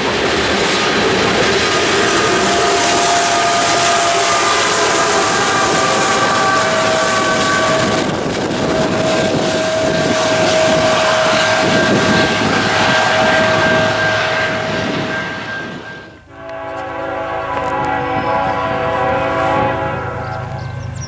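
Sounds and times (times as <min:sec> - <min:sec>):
freight train rumble: 0:00.0 - 0:21.0
locomotive horn chord: 0:00.0 - 0:21.0
train air horn: 0:00.0 - 0:21.0.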